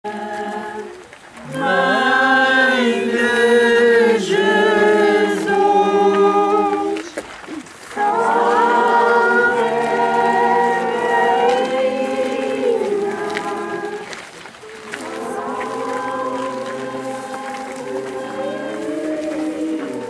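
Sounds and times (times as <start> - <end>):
crowd singing a hymn unaccompanied: 0.0 - 7.2, 7.9 - 20.0.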